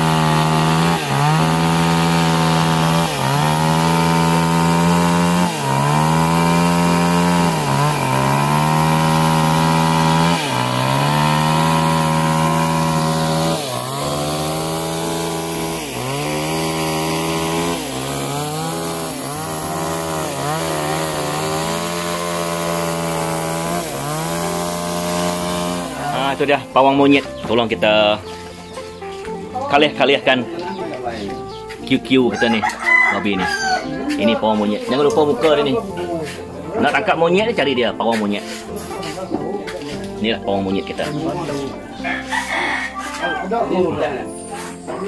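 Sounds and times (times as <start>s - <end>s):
chainsaw cutting through log: 0.0s - 30.0s, 31.2s - 39.2s, 39.8s - 45.0s.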